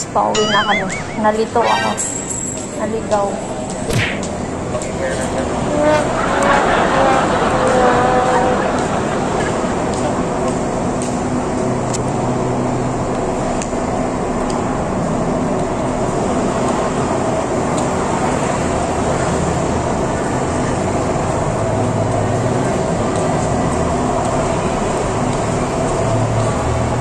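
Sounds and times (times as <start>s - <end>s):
car engines running: 2.3s - 27.0s.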